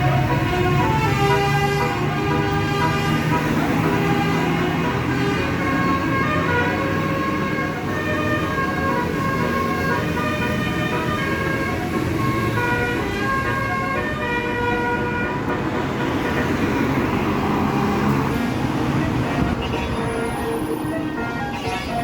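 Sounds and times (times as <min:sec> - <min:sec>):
bus engine running low: 0:00.0 - 0:22.0
bus horn playing melody: 0:00.0 - 0:22.0.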